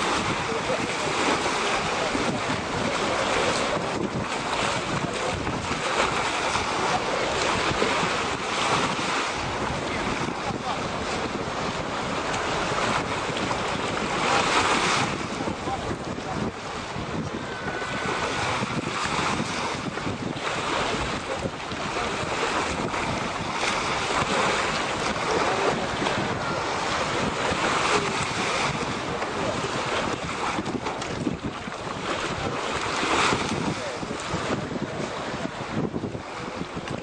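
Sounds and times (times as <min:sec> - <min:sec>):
shallow sea water washing: 0:00.0 - 0:37.0
wind buffeting microphone: 0:00.0 - 0:37.0.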